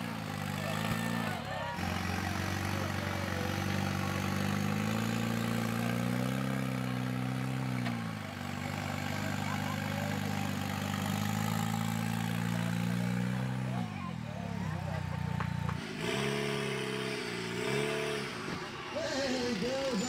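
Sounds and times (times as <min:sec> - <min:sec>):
buggy engine under throttle: 0:00.0 - 0:20.0.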